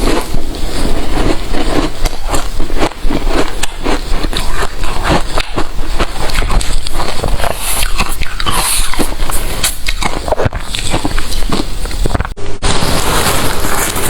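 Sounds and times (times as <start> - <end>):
ice crunching: 0.0 - 14.0.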